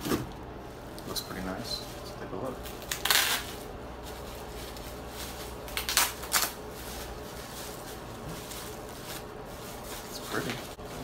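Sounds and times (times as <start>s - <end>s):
bubble wrap crinkling: 1.3s - 11.0s.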